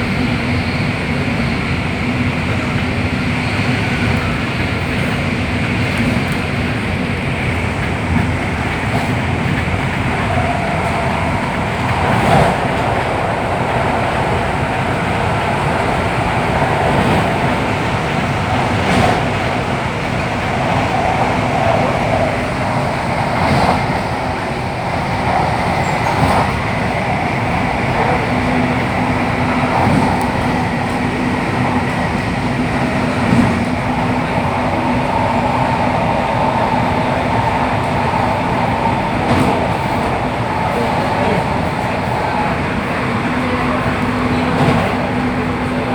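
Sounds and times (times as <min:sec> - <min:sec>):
train rumbling at speed: 0:00.0 - 0:45.9.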